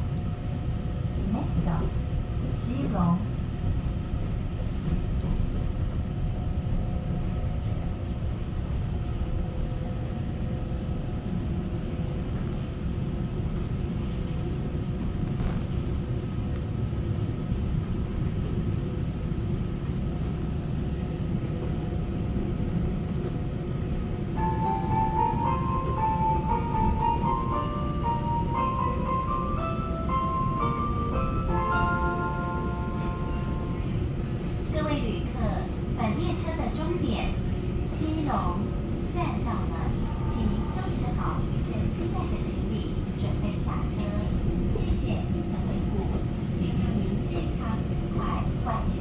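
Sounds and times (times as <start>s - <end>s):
train running rumble: 0.0s - 49.0s.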